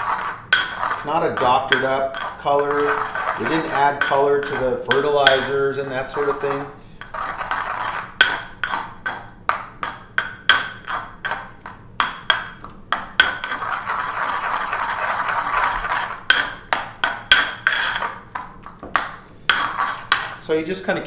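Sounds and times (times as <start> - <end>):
pestle knocking against bowl: 0.0 - 5.6, 6.2 - 20.4
pestle grinding in mortar: 0.0 - 20.6.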